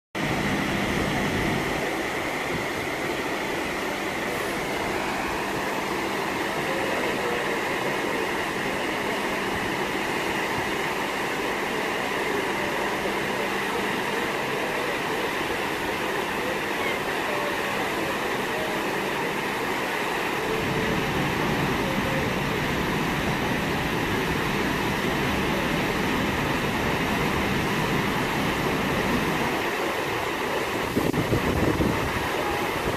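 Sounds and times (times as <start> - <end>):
churning water rushing: 0.2 - 32.9
low rumble of ship: 0.2 - 32.9.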